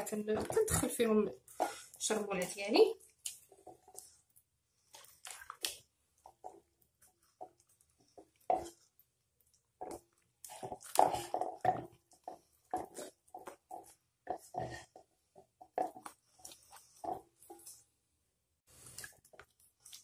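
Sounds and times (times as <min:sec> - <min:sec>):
hands squelching raw chicken: 0:01.4 - 0:17.9, 0:18.7 - 0:20.0.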